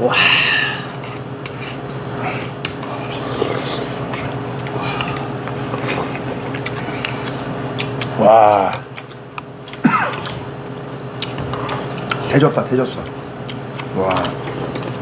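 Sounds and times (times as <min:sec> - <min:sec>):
steady low hum: 0:00.0 - 0:15.0
slurping and chewing: 0:00.6 - 0:10.4, 0:11.2 - 0:12.3, 0:13.0 - 0:15.0.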